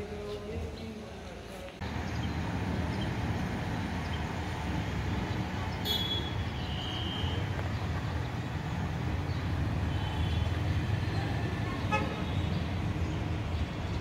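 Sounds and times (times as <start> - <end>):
distant road traffic rumble: 1.7 - 14.0.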